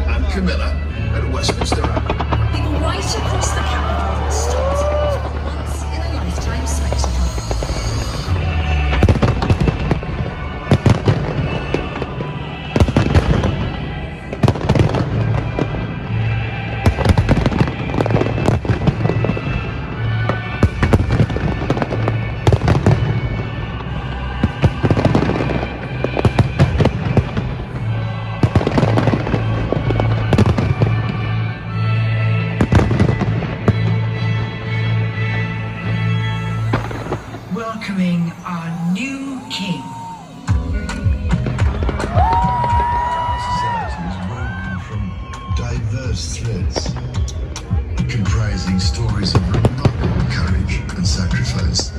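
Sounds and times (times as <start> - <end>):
music with deep bass: 0.0 - 39.1, 39.9 - 51.9
fireworks bangs and crackling: 0.0 - 51.9.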